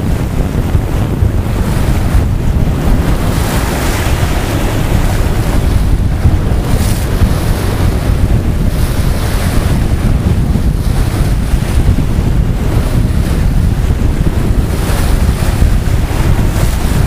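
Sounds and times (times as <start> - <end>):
bow wave rushing and splashing: 0.0 - 17.0
wind buffeting microphone: 0.0 - 17.0.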